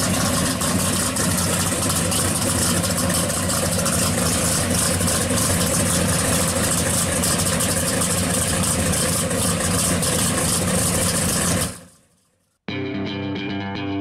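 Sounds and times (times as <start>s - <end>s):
car engine idling: 0.0s - 12.3s.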